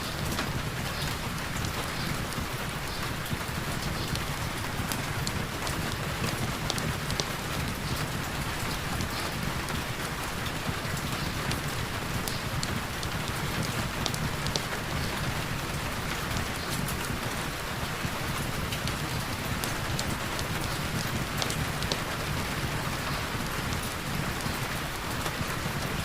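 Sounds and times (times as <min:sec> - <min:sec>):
raindrops ticking on a surface: 0:00.0 - 0:26.0.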